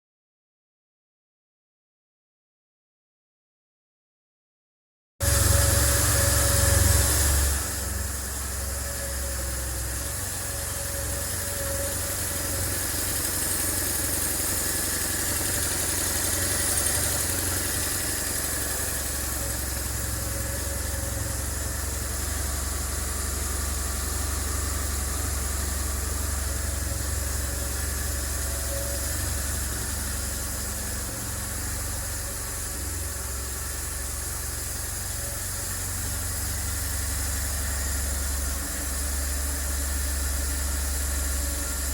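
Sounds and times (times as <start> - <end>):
motorcycle engine idling: 7.1 - 41.9.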